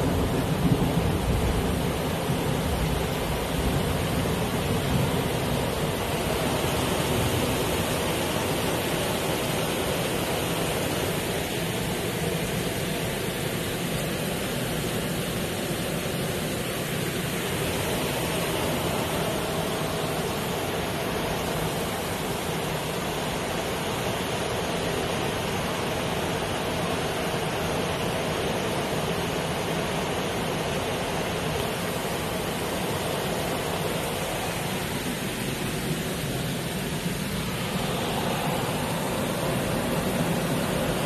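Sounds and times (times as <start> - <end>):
heavy rain on vehicle: 0.0 - 41.0.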